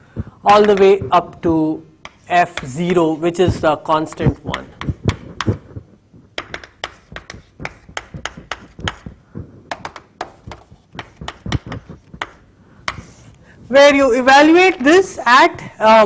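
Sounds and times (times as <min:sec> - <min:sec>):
chalk tapping on chalkboard: 0:00.5 - 0:13.4.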